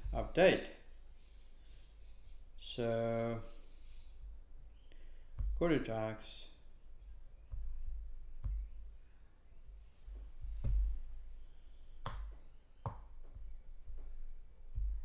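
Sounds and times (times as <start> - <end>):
low steady background hum: 0.0 - 15.0.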